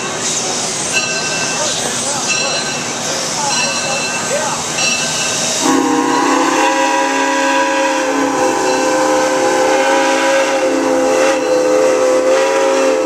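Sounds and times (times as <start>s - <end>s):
steam hissing: 0.0s - 13.0s
steam locomotive chime whistle: 0.9s - 13.0s.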